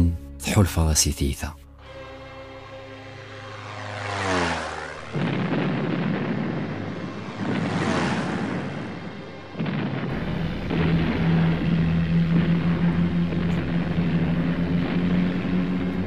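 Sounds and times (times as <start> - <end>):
propeller plane passing overhead: 1.6 - 16.0
steady engine drone: 1.6 - 16.0.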